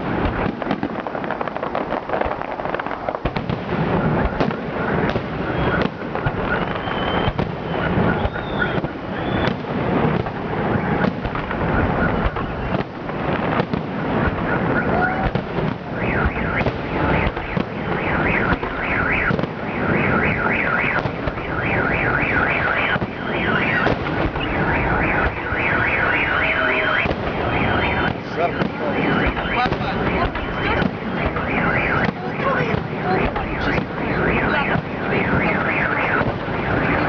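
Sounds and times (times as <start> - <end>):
fireworks rumble and bangs: 0.0 - 37.0
car alarm warbling: 3.8 - 37.0.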